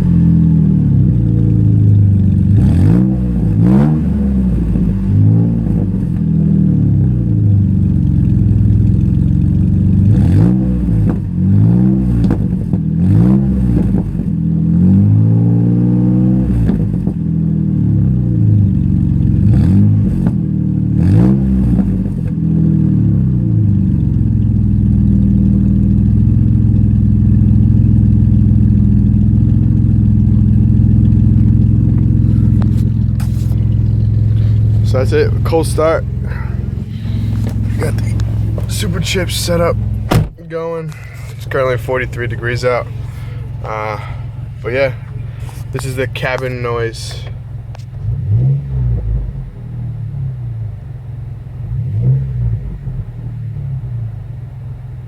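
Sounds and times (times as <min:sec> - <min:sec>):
engine revving and idling: 0:00.0 - 0:55.0.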